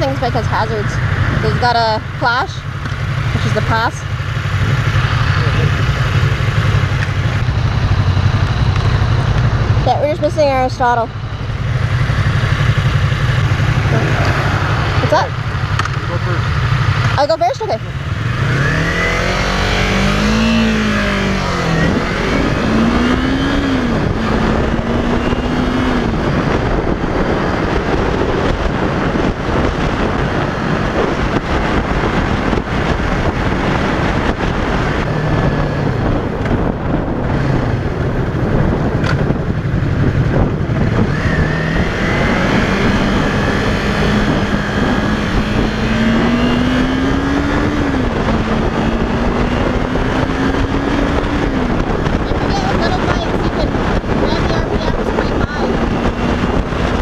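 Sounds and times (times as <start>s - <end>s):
motorcycle engine accelerating: 0.0s - 57.0s
wind rush: 0.0s - 57.0s.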